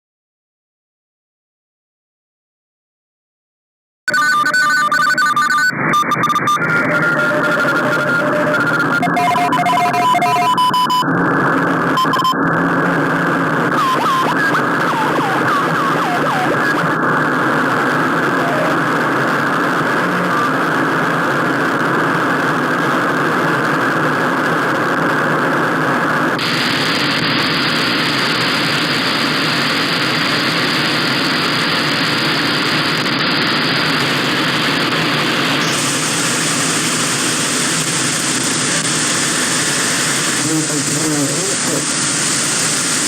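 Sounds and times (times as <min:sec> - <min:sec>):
radio static hiss: 0:04.1 - 0:43.0.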